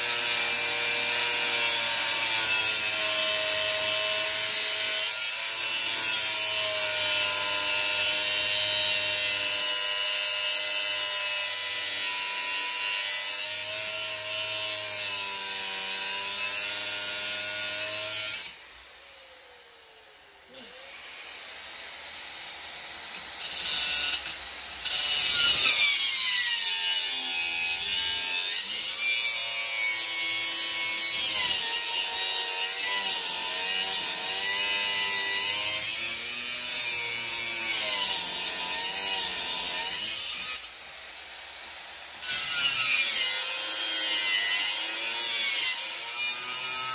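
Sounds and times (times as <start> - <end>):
grinder cutting steel: 0.0 - 46.9.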